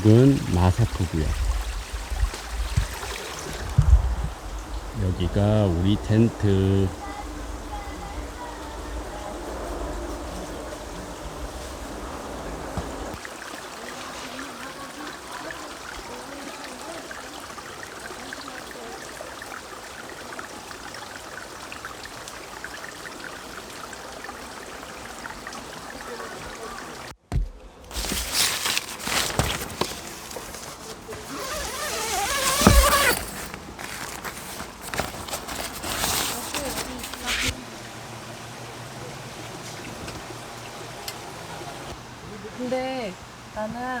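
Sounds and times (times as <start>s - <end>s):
stream flowing: 0.0s - 27.2s, 27.9s - 44.0s.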